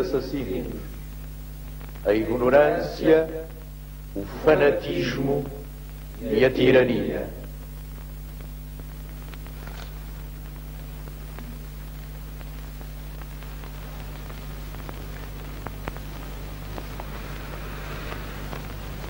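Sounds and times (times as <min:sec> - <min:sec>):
even hiss: 0:00.0 - 0:19.0
low electrical hum: 0:00.0 - 0:19.0.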